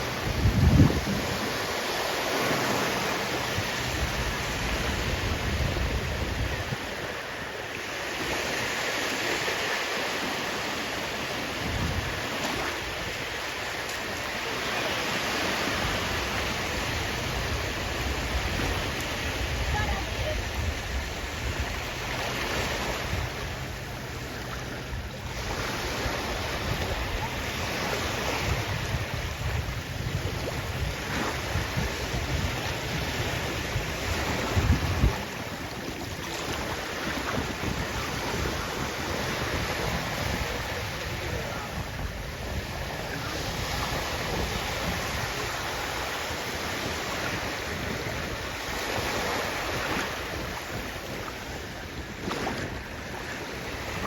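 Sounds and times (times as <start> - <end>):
sea waves breaking: 0.0 - 54.0
wind rumbling on microphone: 0.0 - 54.0.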